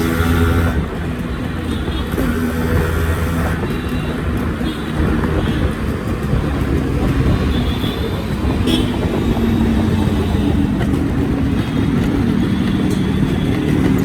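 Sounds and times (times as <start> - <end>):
road traffic noise: 0.0 - 14.0
two-stroke motorcycle engine running: 0.0 - 14.0.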